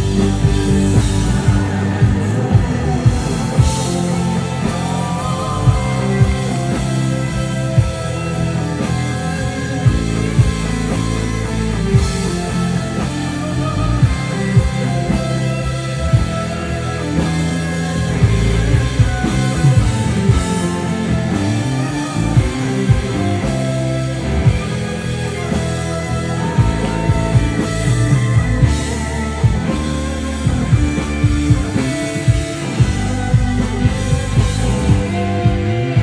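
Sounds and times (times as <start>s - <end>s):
rock band music: 0.0s - 36.0s.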